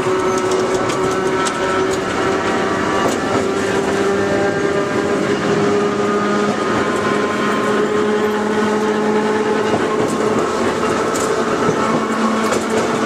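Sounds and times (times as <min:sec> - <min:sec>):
traction motor whine: 0:00.0 - 0:13.0
wheels rumbling on rail: 0:00.0 - 0:13.0.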